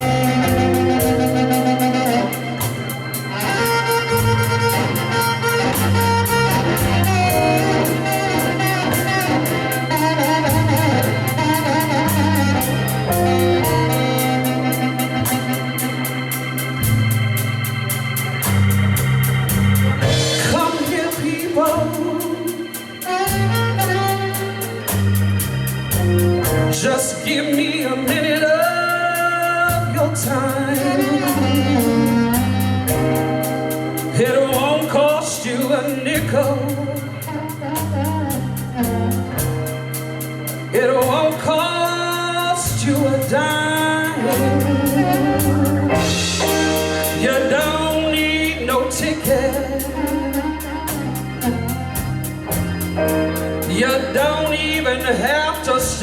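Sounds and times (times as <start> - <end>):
steady drum beat: 0.0 - 28.7, 29.7 - 56.0
blues band playing: 0.0 - 56.0
organ: 0.0 - 56.0
walking bass line: 0.0 - 56.0.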